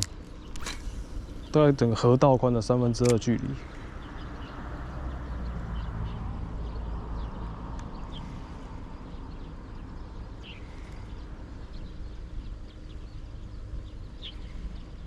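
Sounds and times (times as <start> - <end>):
bird chirps: 0.0 - 15.0
steady low rumble: 0.0 - 15.0.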